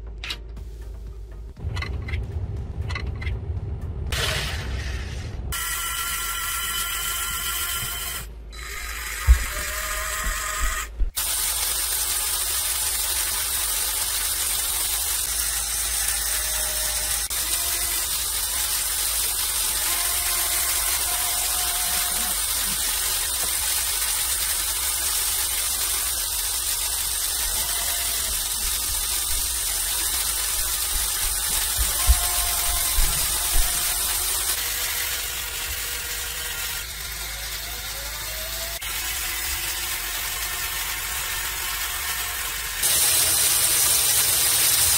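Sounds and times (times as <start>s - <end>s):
electric motors whirring: 5.5s - 44.9s
motor whine: 5.5s - 44.9s.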